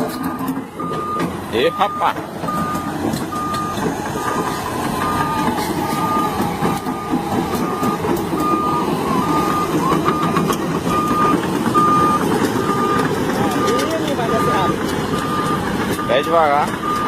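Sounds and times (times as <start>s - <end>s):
heavy vehicle engine running: 0.0s - 17.0s
vehicle warning beeper: 0.0s - 17.0s.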